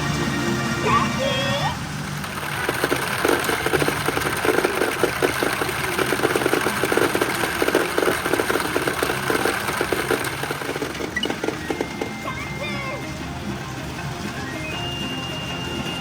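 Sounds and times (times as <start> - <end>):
pachinko machine rattling clatter: 0.2 - 16.0.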